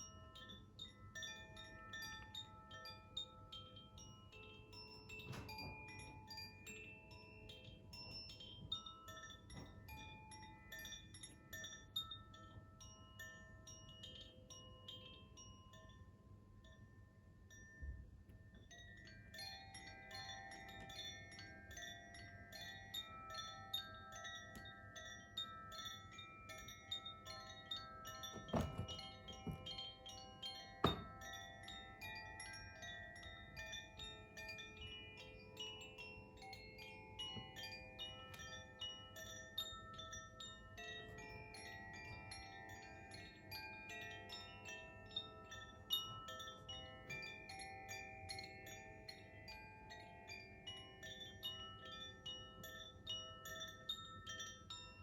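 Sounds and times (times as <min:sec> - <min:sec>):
wind chime ringing: 0:00.0 - 0:55.0.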